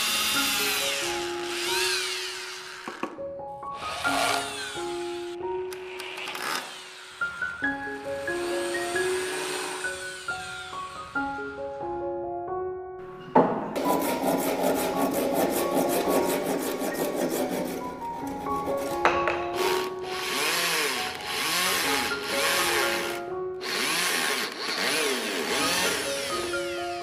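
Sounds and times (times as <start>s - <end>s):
handsaw cutting wood: 0.0s - 3.0s, 3.8s - 11.2s, 13.8s - 27.0s
soft background music: 0.0s - 27.0s.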